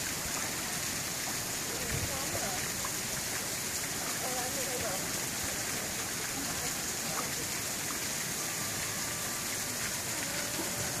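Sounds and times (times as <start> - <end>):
water splashing into pool: 0.0 - 11.0.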